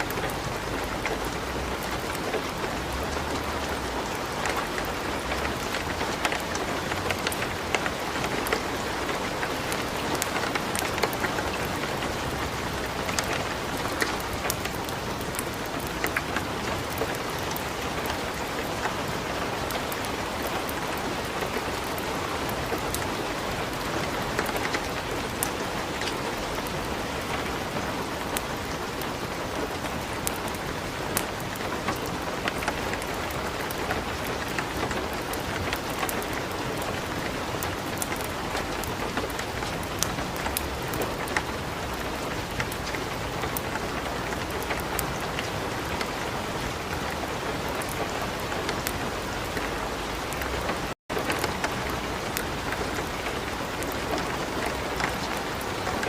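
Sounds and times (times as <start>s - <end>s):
wood fire crackling: 0.0s - 49.0s
light rain hiss: 0.0s - 56.0s.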